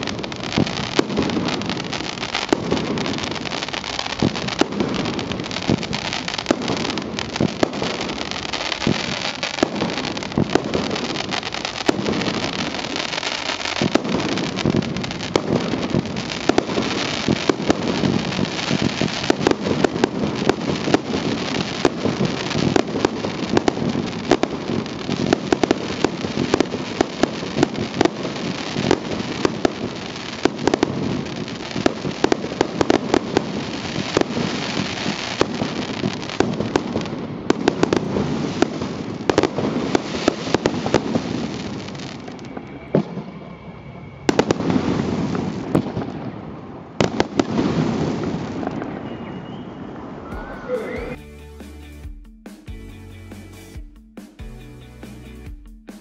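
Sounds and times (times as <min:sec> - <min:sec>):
fireworks bangs: 0:00.0 - 0:51.2
fireworks crackling: 0:00.0 - 0:56.0.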